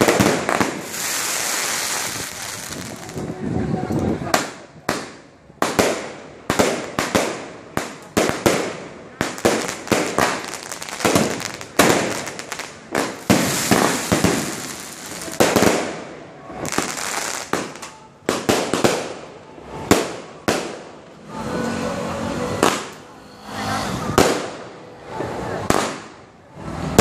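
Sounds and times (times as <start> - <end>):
fireworks bangs: 0.0 - 21.0, 22.6 - 26.2
fireworks crackle and rumble: 0.0 - 21.4, 22.5 - 27.0.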